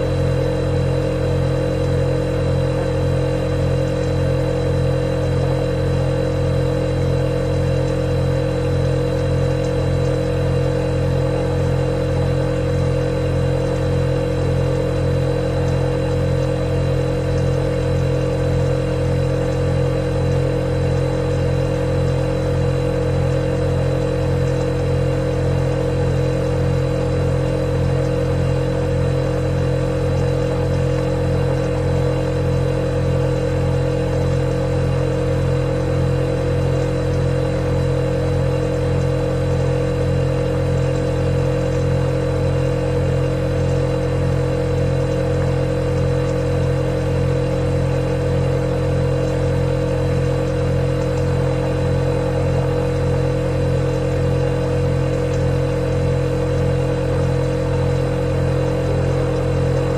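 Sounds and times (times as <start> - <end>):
refrigerator compressor humming: 0.0 - 59.9.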